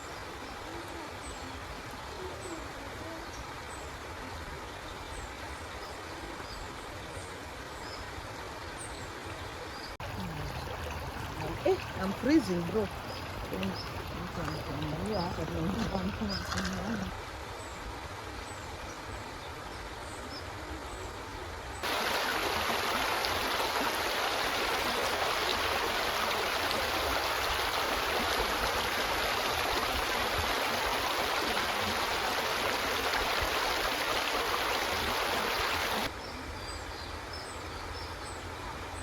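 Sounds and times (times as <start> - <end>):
river water rushing: 0.0 - 36.2.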